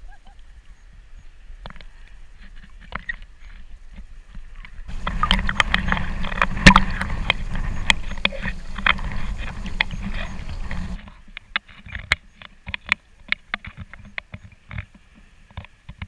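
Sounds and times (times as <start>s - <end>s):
water sloshing against camera: 0.0s - 16.0s.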